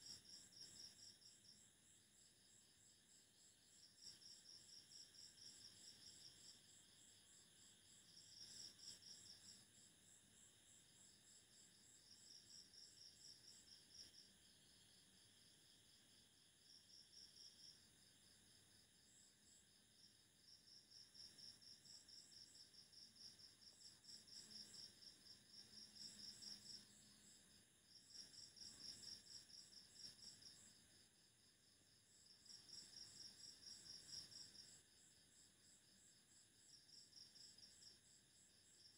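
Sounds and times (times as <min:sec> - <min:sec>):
insects chirping trills: 0:00.0 - 0:38.9.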